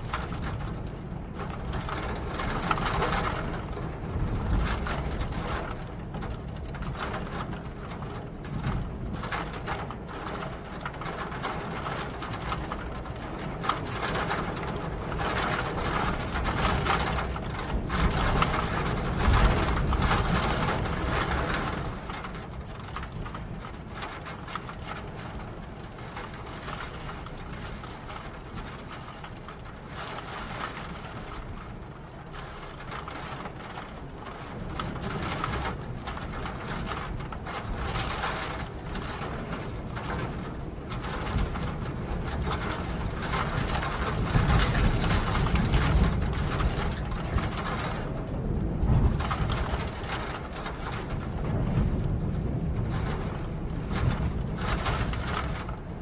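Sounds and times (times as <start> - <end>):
rain drops ticking: 0.0 - 56.0.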